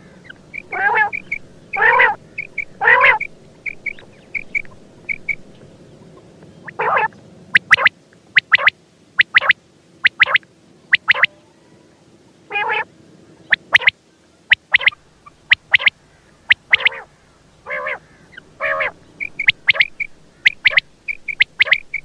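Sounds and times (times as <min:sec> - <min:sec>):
quail calling: 0:00.0 - 0:11.6, 0:12.5 - 0:22.0.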